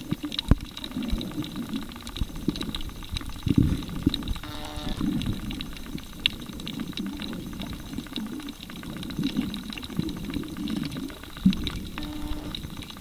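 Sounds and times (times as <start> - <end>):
faint crackling clicks: 0.0 - 13.0
muffled underwater rumble: 0.0 - 13.0.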